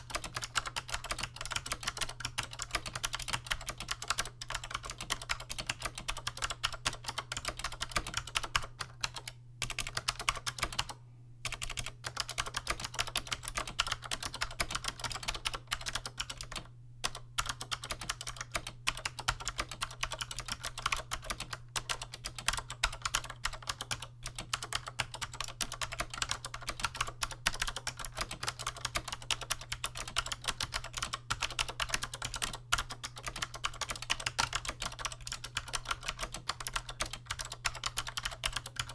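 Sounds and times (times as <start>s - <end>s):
typing on clicky keyboard: 0.0s - 38.9s.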